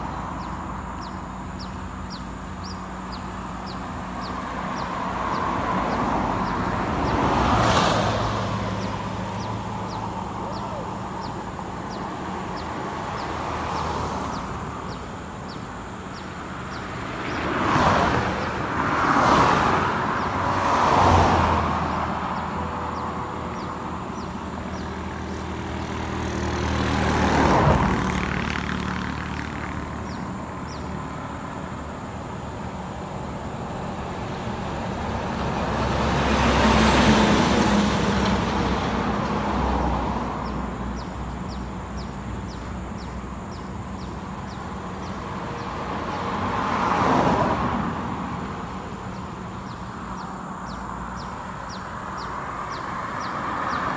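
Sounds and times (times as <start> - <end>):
traffic rumble: 0.0 - 53.9
vehicles passing close by: 0.0 - 53.9.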